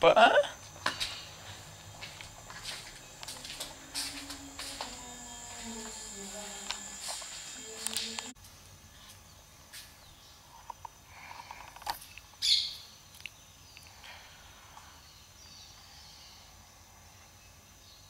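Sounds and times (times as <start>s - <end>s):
faint steady high hiss: 0.0s - 18.0s.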